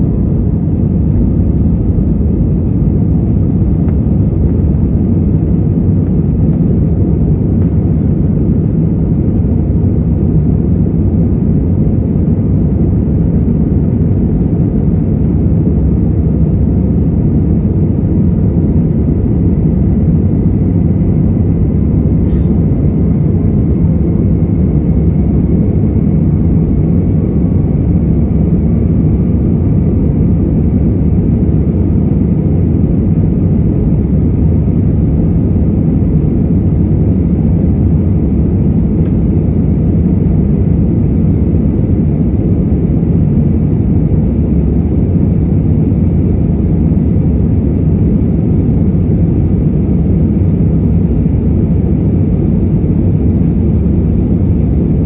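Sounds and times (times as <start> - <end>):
jet engines and rushing air: 0.0 - 55.0.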